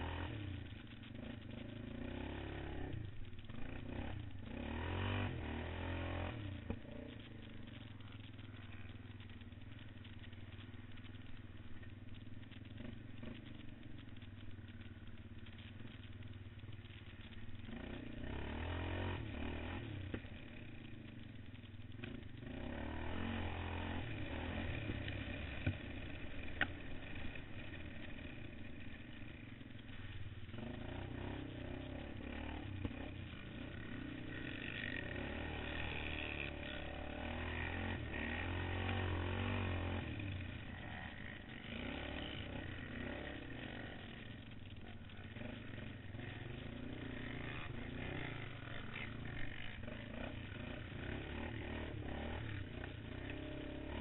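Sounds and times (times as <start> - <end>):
quad bike engine revving: 0.0 - 54.0.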